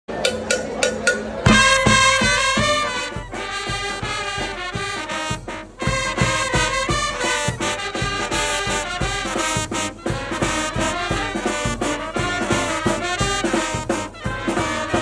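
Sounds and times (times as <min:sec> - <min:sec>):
brass horns over a beat: 0:01.5 - 0:15.0.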